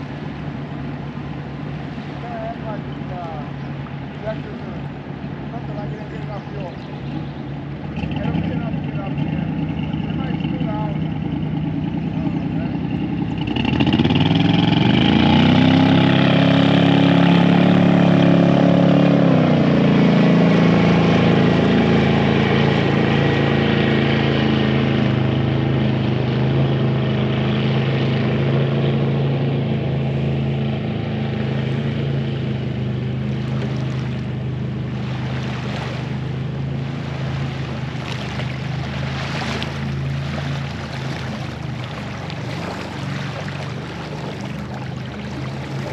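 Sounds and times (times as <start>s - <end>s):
motorboat engine running: 0.0s - 45.9s.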